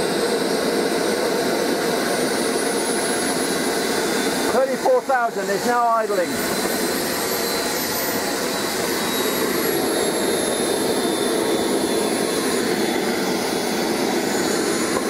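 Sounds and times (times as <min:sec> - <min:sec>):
gas turbine jet rush: 0:00.0 - 0:15.0
high-pitched whines: 0:02.0 - 0:15.0.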